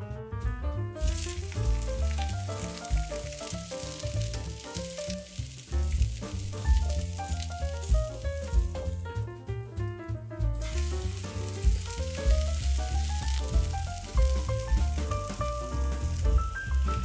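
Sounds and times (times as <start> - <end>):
background music with bass: 0.0 - 17.0
food sizzling in a pan: 1.0 - 9.0, 10.6 - 17.0.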